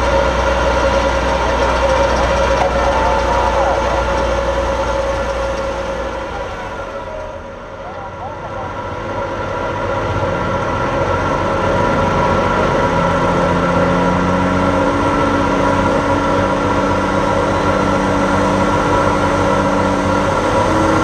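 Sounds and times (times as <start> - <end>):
tractor engine at full power: 0.0 - 21.0.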